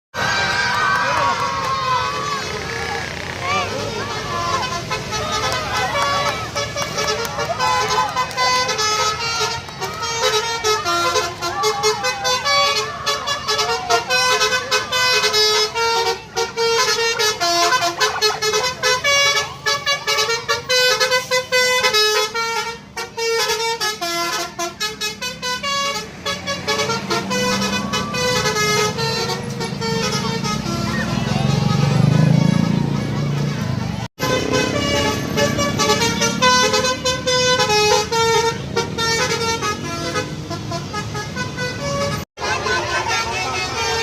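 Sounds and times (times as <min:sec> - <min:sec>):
musical air horn tune: 0:03.8 - 0:33.6, 0:34.2 - 0:44.0.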